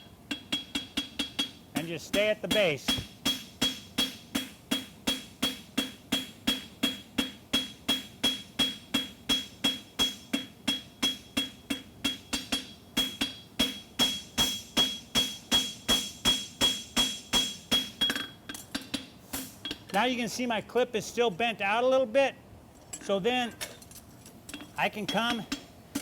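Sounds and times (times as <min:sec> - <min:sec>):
hammer striking horseshoe on anvil: 0:00.3 - 0:20.0, 0:24.6 - 0:26.0.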